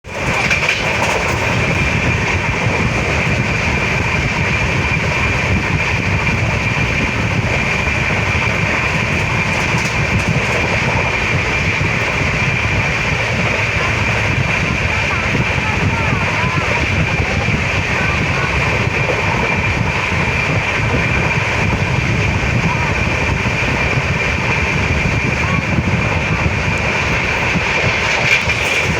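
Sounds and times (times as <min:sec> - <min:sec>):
train wheels on track: 0:00.0 - 0:28.9.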